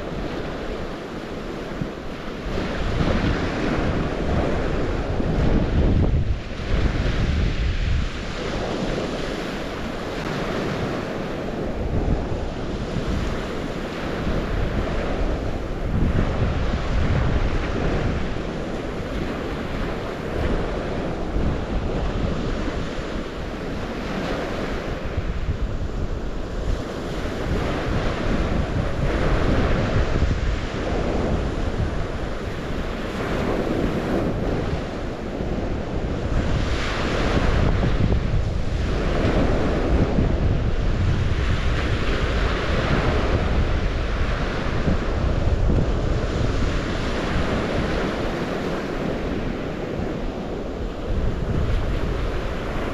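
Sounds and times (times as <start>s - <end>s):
waves washing on shore: 0.0s - 52.9s
wind rumbling on microphone: 0.0s - 52.9s.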